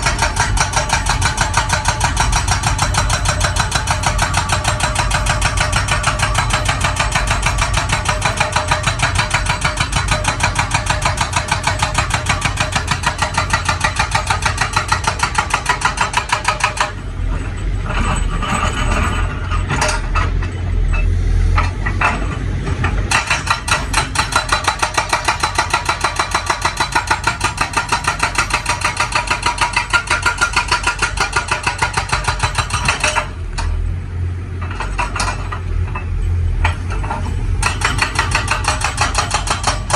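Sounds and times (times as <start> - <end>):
hydraulic rock breaker hammering: 0.0 - 20.6, 21.6 - 33.8, 34.6 - 39.9
excavator engine running: 0.0 - 39.9.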